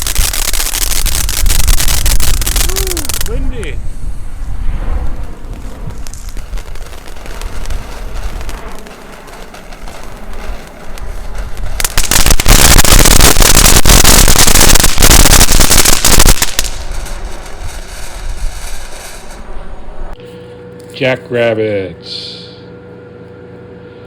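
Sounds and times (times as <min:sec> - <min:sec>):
firework fountain hissing and crackling: 0:00.0 - 0:19.6
wind buffeting microphone: 0:00.8 - 0:20.2.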